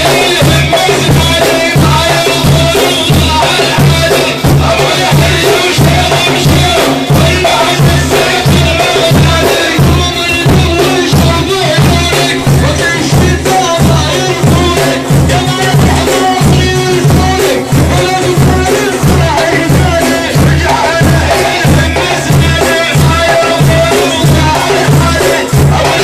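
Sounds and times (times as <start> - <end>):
frame drums beating: 0.0 - 26.0.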